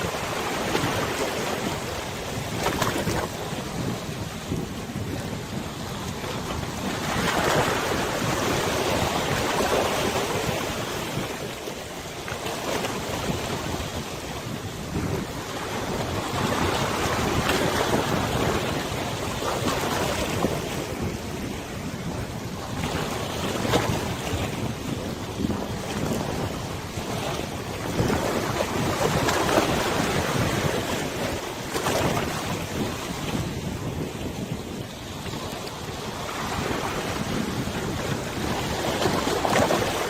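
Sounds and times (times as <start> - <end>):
waves splashing and lapping: 0.0 - 40.0
wind blowing across microphone: 0.0 - 40.0.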